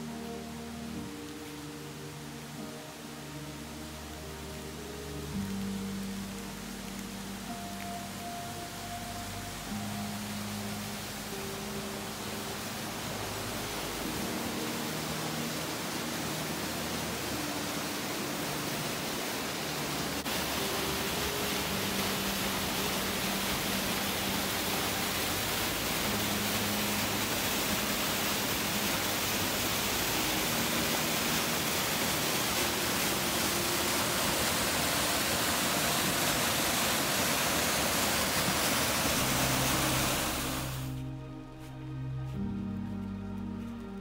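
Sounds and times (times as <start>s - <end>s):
waterfall rushing: 0.0s - 41.6s.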